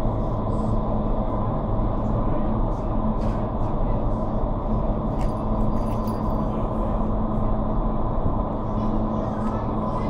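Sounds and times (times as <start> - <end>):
low fan hum: 0.0 - 10.0.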